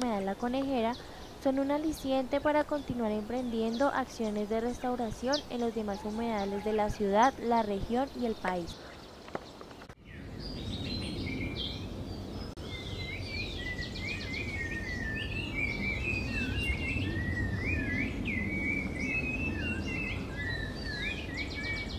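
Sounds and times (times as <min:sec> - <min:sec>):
birds chirping and trilling: 0:00.0 - 0:21.9.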